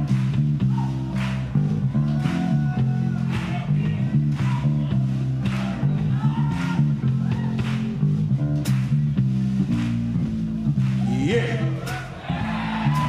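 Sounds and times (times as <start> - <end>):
electric bass guitar: 0.0 - 13.0
funk band playing: 0.0 - 13.0.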